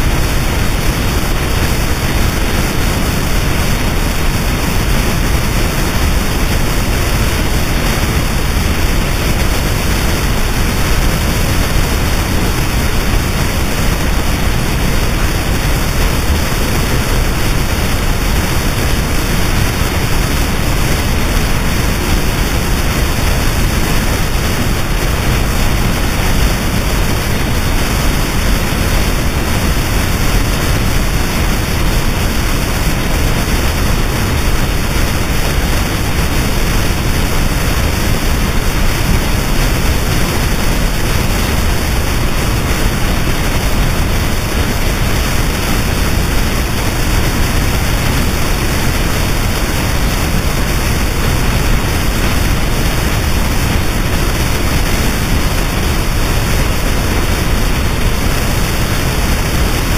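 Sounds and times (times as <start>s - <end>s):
loud wall of static noise: 0.0s - 59.9s.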